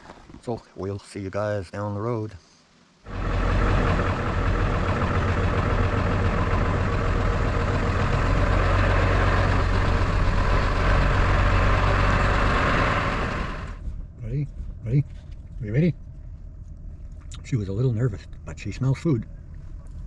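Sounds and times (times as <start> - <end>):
road noise: 3.1 - 20.0
vehicle engine hum: 3.1 - 20.0.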